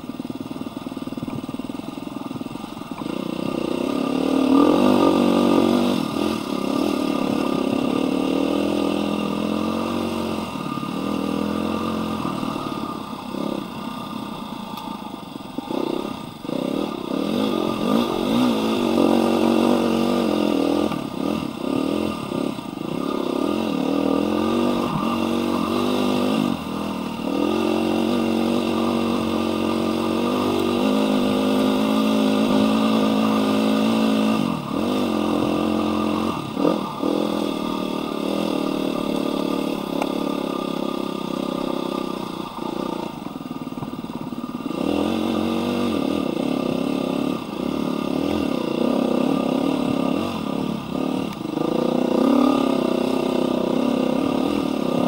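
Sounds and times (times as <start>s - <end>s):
dirt bike engine revving: 2.6s - 55.0s.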